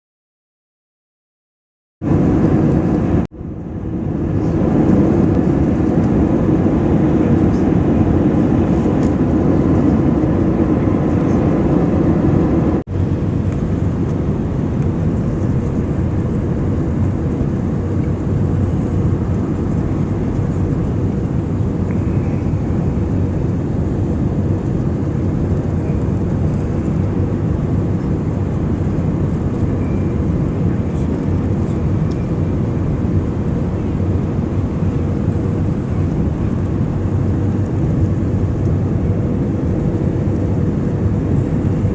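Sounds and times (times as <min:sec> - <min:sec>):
airplane cabin engine rush: 0:02.0 - 0:41.9
low hum: 0:02.0 - 0:41.9.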